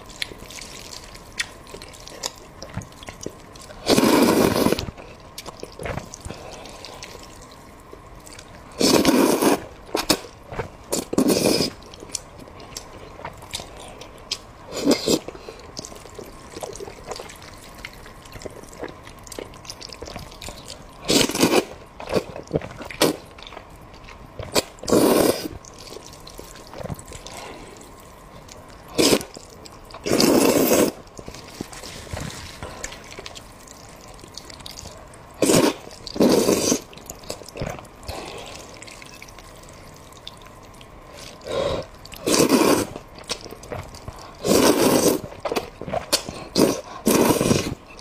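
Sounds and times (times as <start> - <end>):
person chewing and slurping: 0.0 - 7.6, 8.2 - 48.0.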